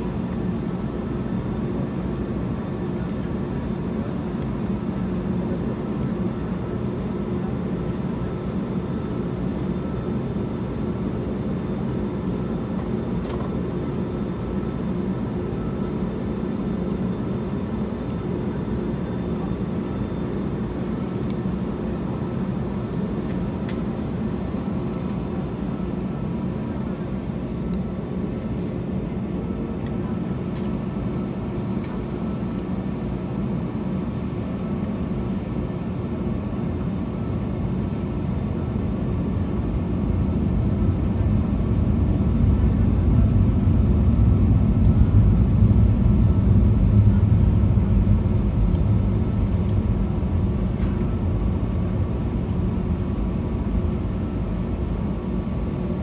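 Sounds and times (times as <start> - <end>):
jet engines idling: 0.0 - 56.0.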